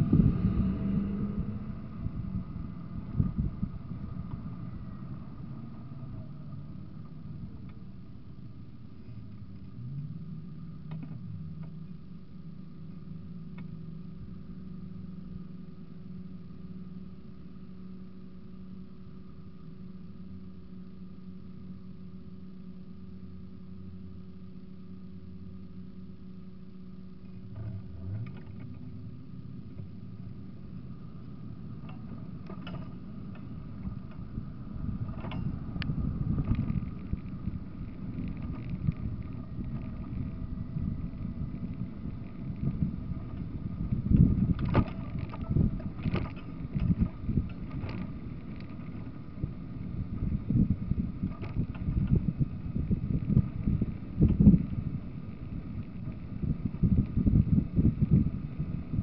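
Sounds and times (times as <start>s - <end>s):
car engine and road noise inside: 0.0s - 59.0s.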